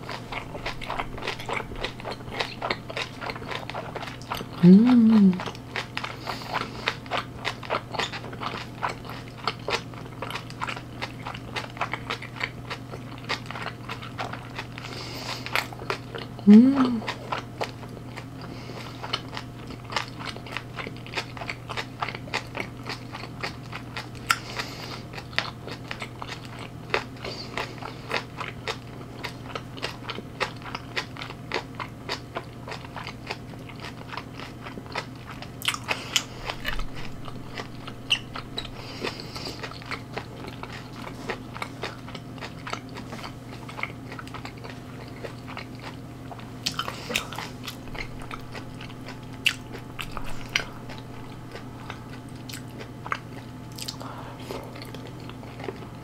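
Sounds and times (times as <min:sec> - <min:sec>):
chewing and crunching food: 0:00.0 - 0:56.0
steady low hum: 0:00.0 - 0:56.0.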